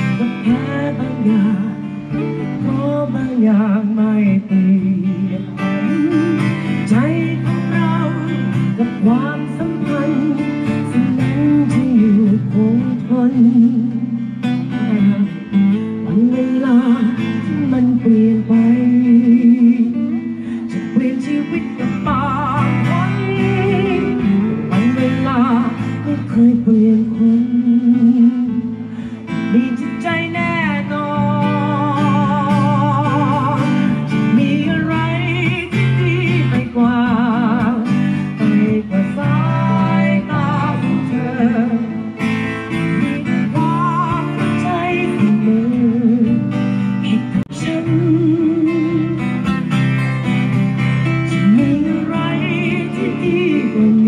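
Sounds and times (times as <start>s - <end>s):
acoustic guitar: 0.0s - 54.0s
person singing with vibrato: 0.0s - 54.0s.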